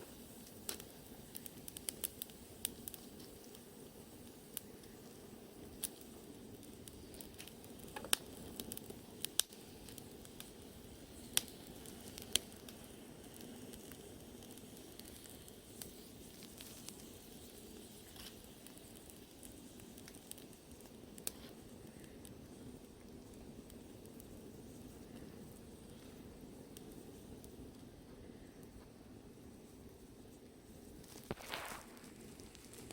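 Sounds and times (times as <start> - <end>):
bonfire crackling and popping: 0.0 - 32.9.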